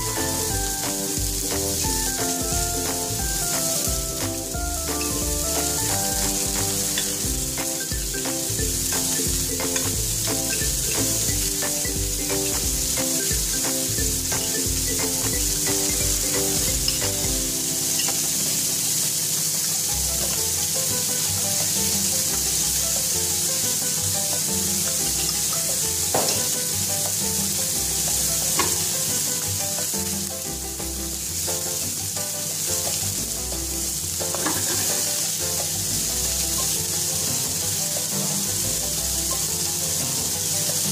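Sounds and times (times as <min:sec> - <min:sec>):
fish sizzling in a pan: 0:00.0 - 0:40.9.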